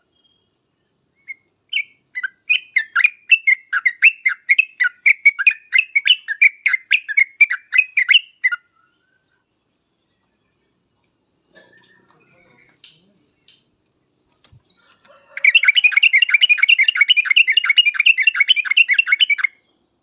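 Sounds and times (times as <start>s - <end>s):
bird singing chattering notes: 0.3s - 19.6s.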